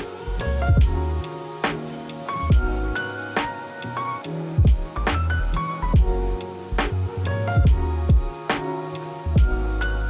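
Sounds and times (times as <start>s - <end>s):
electronic music with steady beat: 0.0s - 7.0s, 7.6s - 10.0s.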